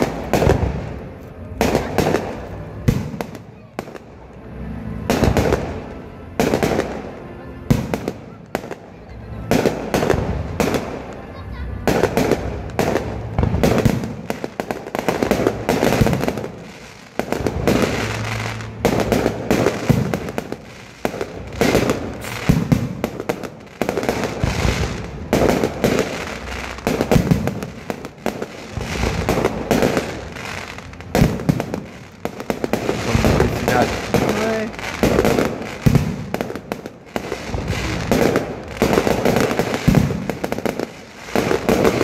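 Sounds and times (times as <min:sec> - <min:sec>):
fireworks bursts and crackling: 0:00.0 - 0:42.0.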